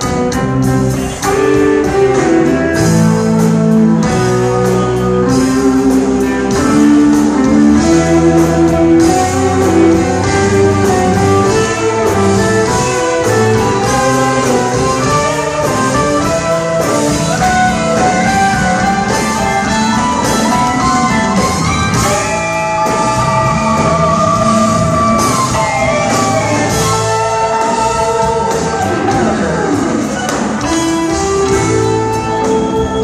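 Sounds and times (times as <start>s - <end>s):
electric guitar lead sliding: 0.0s - 33.0s
live rock band playing: 0.0s - 33.0s.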